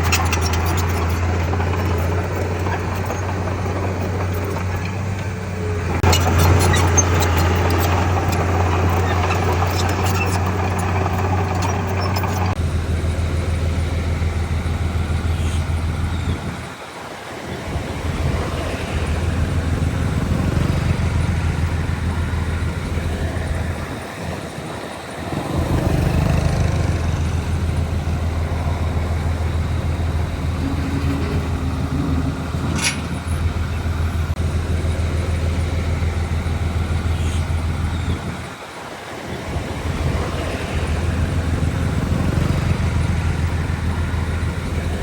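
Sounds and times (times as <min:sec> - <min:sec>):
heavy diesel engine droning: 0:00.0 - 0:45.0.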